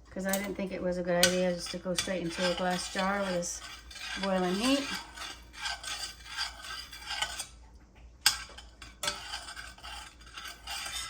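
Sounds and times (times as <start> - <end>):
spoon scraping a pot: 0.2 - 7.6, 8.2 - 11.0.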